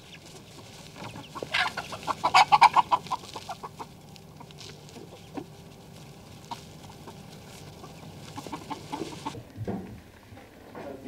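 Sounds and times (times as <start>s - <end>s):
hens clucking: 0.0s - 9.6s.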